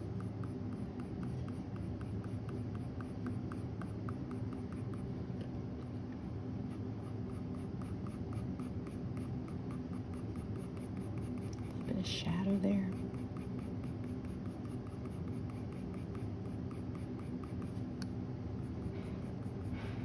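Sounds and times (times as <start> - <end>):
pencil scratching on paper: 0.0 - 5.1, 6.7 - 17.9, 18.6 - 20.0.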